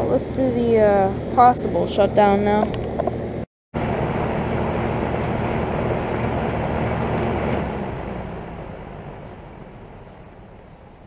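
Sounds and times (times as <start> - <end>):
air conditioner compressor hum: 0.0 - 11.0
condenser fan running: 0.0 - 11.0.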